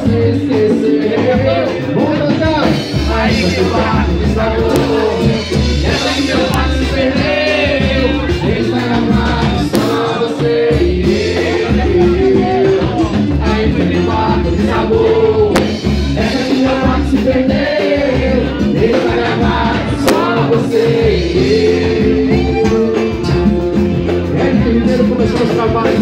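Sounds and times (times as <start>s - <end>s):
live band playing: 0.0s - 26.0s
person singing: 2.9s - 26.0s.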